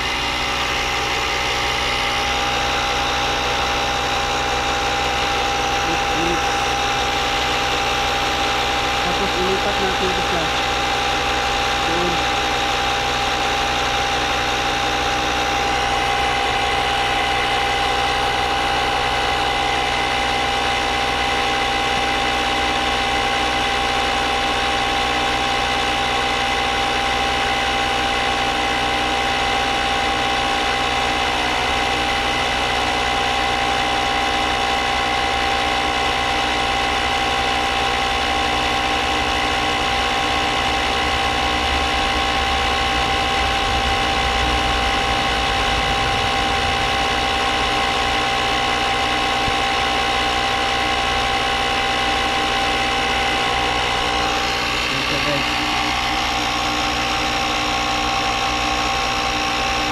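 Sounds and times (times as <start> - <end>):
tire inflator compressor running: 0.0 - 59.9.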